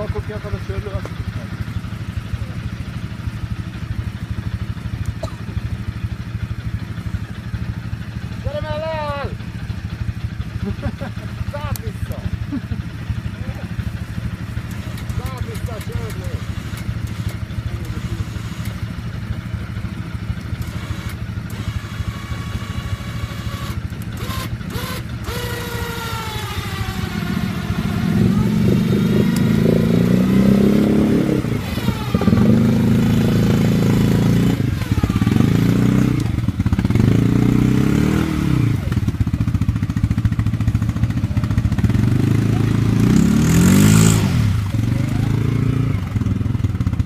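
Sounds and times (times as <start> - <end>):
quad bike engine revving: 0.0 - 47.0.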